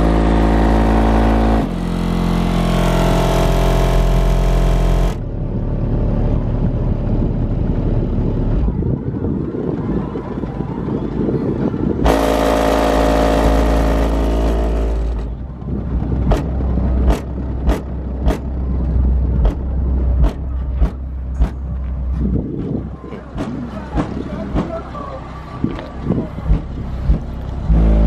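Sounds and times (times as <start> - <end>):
bass-heavy song from subwoofers: 0.0 - 28.0.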